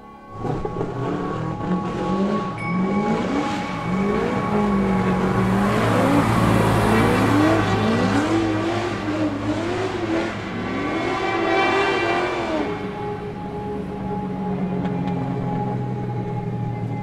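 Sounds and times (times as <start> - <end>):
low hum: 0.0 - 17.0
car engine revving: 0.3 - 16.9.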